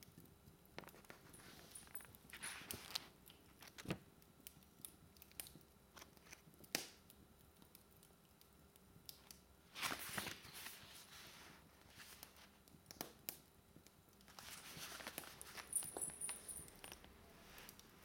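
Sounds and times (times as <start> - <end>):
faint steady hiss: 0.0 - 18.0
logs crackling in a fireplace: 0.0 - 18.0.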